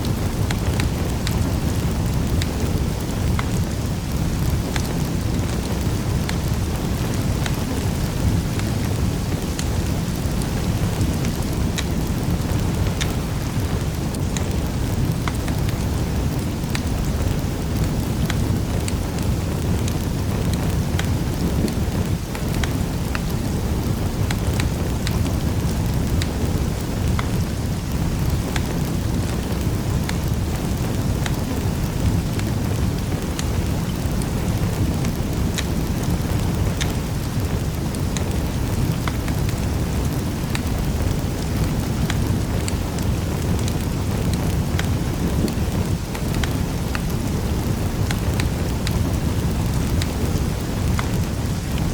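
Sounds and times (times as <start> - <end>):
low roar of flames: 0.0 - 51.9
sharp pops and snaps: 0.0 - 51.9
wood fire crackling: 0.0 - 51.9.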